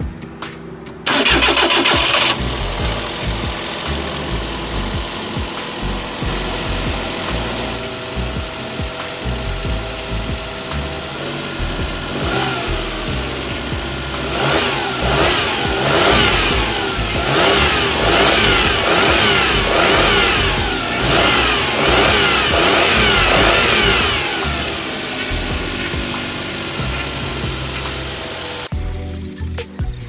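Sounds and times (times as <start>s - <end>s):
van engine revving: 1.0s - 28.8s.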